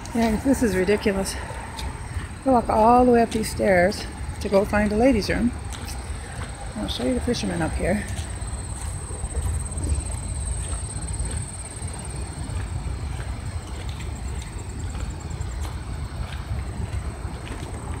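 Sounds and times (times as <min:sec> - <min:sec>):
footsteps on gravel: 0:00.0 - 0:18.0
steady low rumble: 0:00.0 - 0:18.0.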